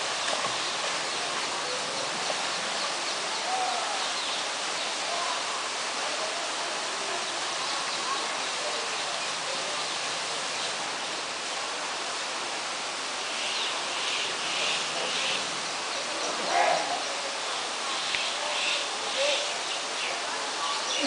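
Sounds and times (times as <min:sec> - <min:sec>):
rushing water hiss: 0:00.0 - 0:21.0.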